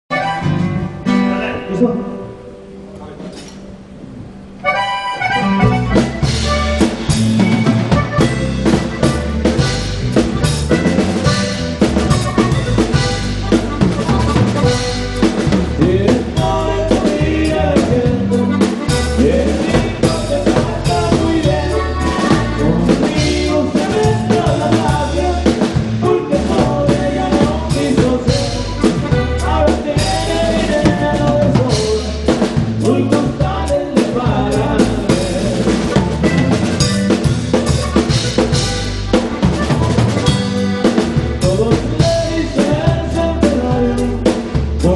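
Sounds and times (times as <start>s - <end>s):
band playing: 0.1s - 44.9s
drum kit beat: 4.6s - 44.9s.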